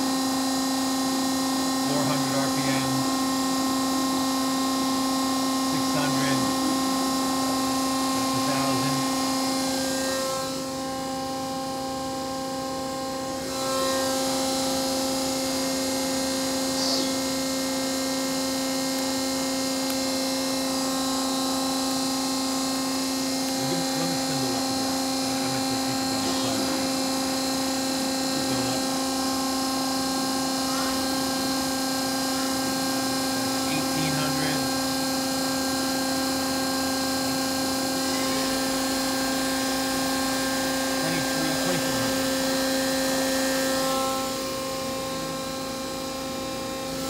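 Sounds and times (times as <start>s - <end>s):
lathe machine hum with whining tones: 0.0s - 47.0s.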